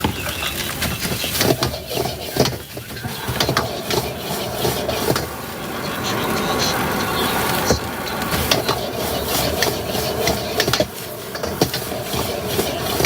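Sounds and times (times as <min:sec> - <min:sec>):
steady background hum: 0:00.6 - 0:13.0
metal utensils clicking and scraping: 0:01.0 - 0:13.0.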